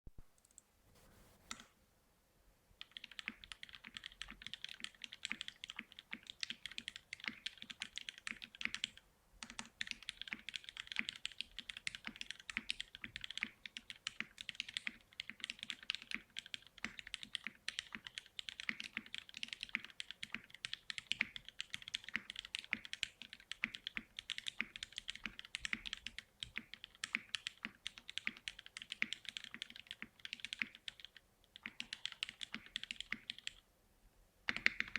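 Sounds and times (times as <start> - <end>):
fast typing on mechanical keyboard: 2.8 - 33.6, 34.5 - 34.9.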